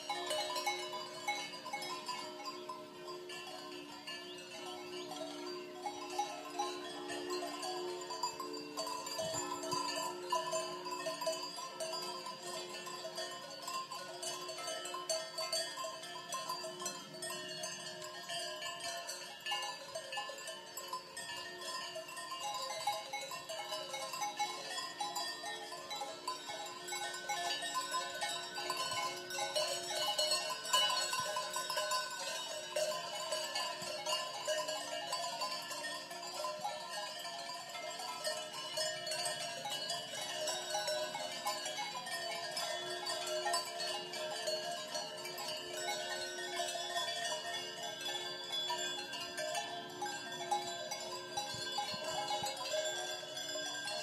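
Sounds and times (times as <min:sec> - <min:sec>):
cowbells ringing: 0:00.0 - 0:54.0.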